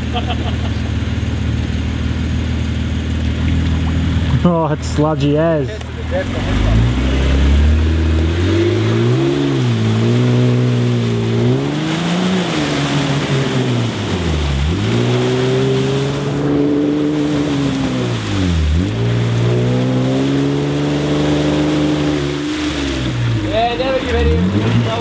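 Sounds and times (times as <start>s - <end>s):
car engine revving: 0.0s - 25.0s
tyres churning mud and water: 0.0s - 25.0s.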